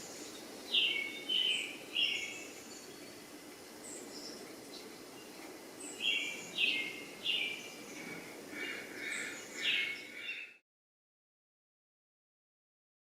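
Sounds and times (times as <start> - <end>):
birds chirping: 0.0 - 10.6
low background noise: 0.0 - 10.6.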